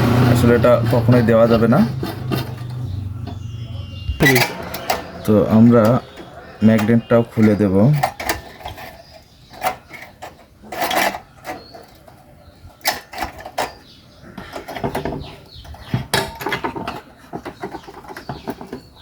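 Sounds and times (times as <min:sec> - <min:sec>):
hand tools clicking on metal: 0:00.0 - 0:03.4, 0:04.2 - 0:18.9.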